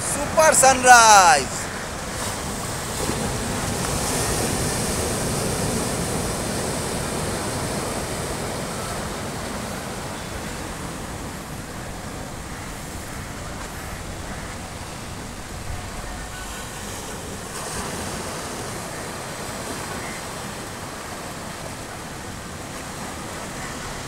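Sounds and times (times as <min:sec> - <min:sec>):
sea surf breaking on rocks: 0:00.0 - 0:24.0.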